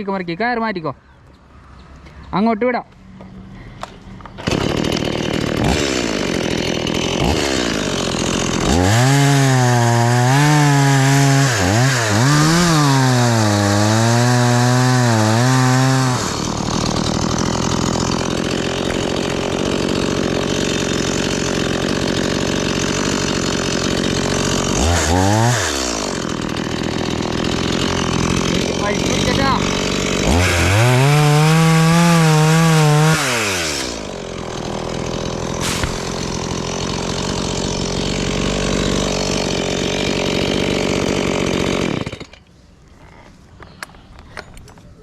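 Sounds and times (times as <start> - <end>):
chainsaw cutting wood: 3.9 - 42.5.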